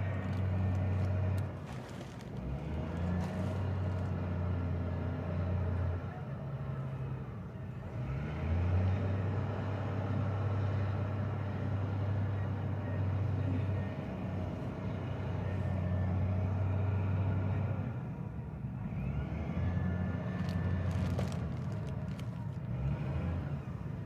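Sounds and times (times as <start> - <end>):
diesel engine running and revving: 0.0 - 24.0.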